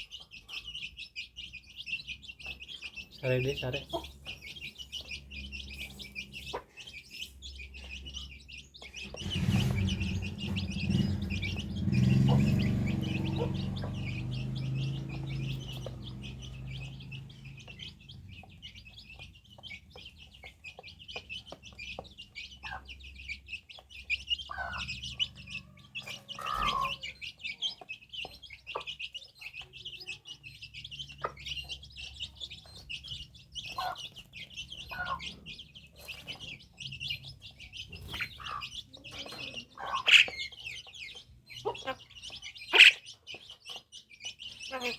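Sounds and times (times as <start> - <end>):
chicken clucking: 0.0 - 44.9
small birds chirping: 0.0 - 44.9.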